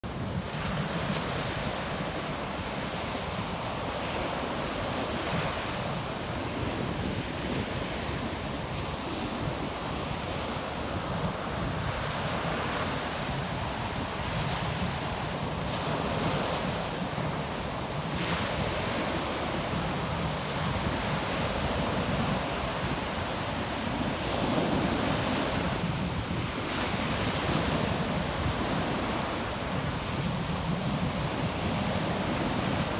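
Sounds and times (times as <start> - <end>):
wind on microphone: 0.0 - 32.9.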